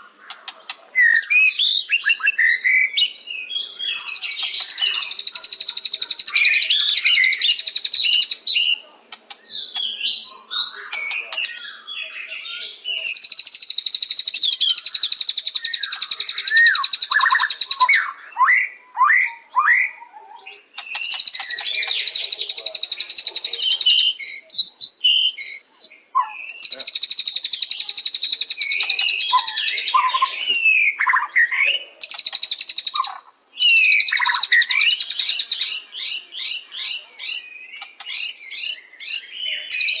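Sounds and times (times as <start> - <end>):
bird singing rapid high trill: 0.0 - 8.8, 9.4 - 40.0
bird whistled phrases: 0.0 - 40.0.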